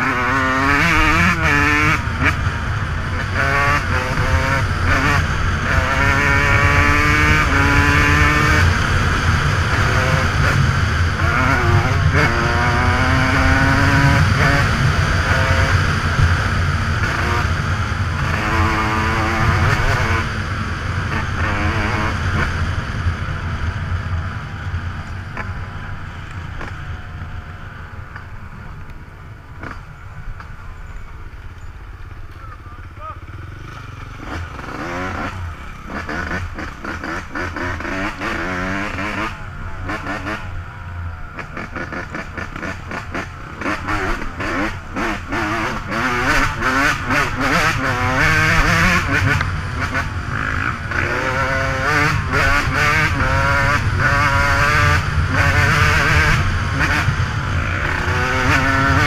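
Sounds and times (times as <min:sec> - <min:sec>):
dirt bike engine revving: 0:00.0 - 0:30.6, 0:31.3 - 0:59.0.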